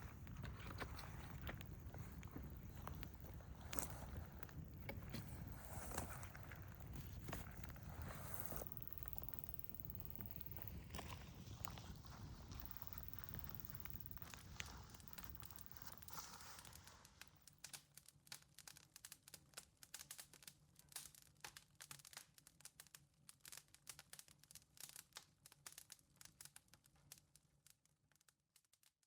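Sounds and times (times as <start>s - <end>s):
campfire crackling and popping: 0.0s - 27.3s.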